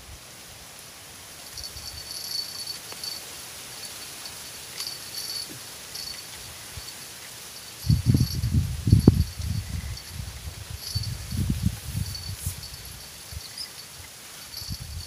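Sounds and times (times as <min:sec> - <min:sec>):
insects chirping: 0:01.0 - 0:15.0.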